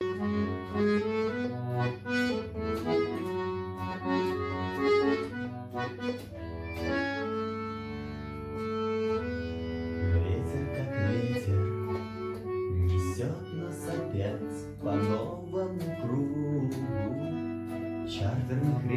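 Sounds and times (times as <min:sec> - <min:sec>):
button accordion playing rock tune: 0:00.0 - 0:18.9.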